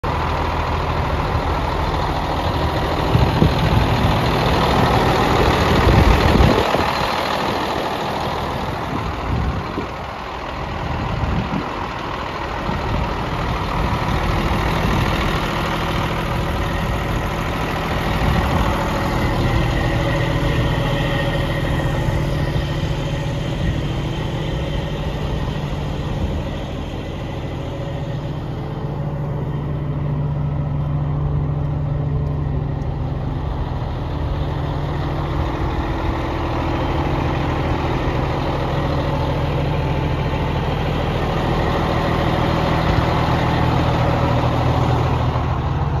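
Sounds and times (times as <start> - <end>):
truck diesel engine idling: 0.0 - 46.0.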